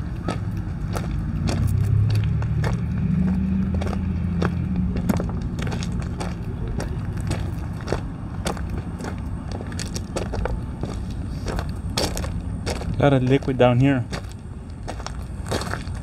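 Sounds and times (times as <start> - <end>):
footsteps crunching on gravel: 0.0 - 16.0
locomotives idling: 0.0 - 16.0.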